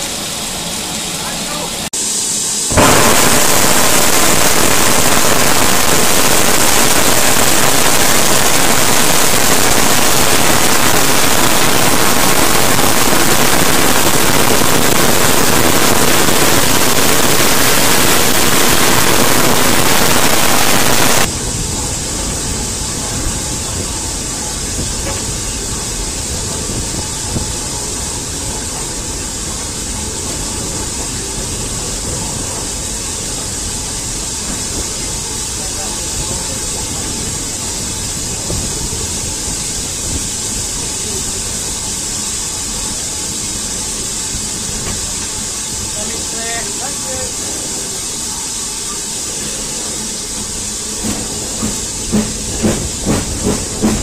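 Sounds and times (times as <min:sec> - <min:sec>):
steam hissing: 0:00.0 - 0:54.0
train rumbling along track: 0:00.0 - 0:54.0.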